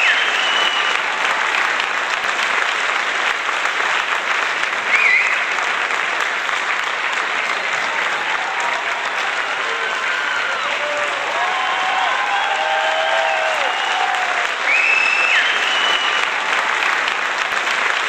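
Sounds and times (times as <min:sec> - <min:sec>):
crowd applause: 0:00.0 - 0:18.0.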